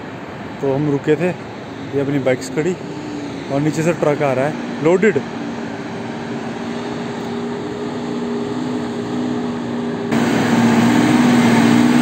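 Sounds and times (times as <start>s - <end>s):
diesel truck engine labouring: 0.0s - 12.0s.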